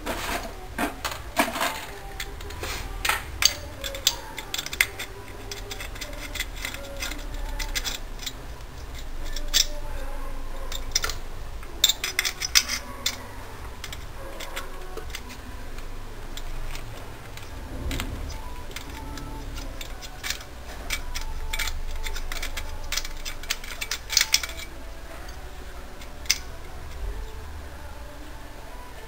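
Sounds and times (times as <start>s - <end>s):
wrench clicking and ticking: 2.1s - 9.9s, 10.7s - 25.4s, 26.0s - 27.0s.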